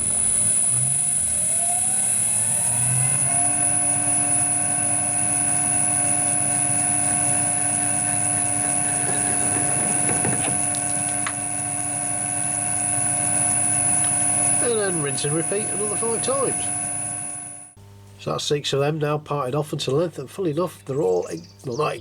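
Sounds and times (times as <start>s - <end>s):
lathe tool scraping metal: 0.0s - 17.8s
metal lathe motor whine: 0.0s - 17.8s.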